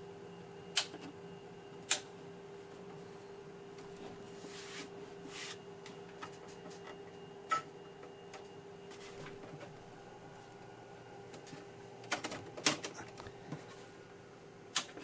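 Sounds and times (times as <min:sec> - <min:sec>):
computer low hum: 0:00.0 - 0:15.0.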